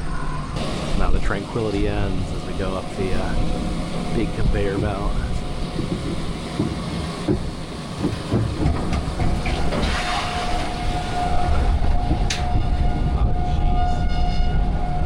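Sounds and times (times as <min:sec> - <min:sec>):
steady whine: 0:00.0 - 0:13.8
conveyor belt rattling rumble: 0:00.0 - 0:14.0.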